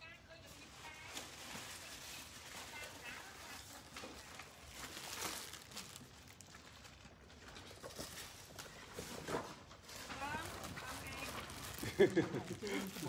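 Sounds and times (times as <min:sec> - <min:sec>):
magazines and plastic bags rustling: 0:00.0 - 0:13.0.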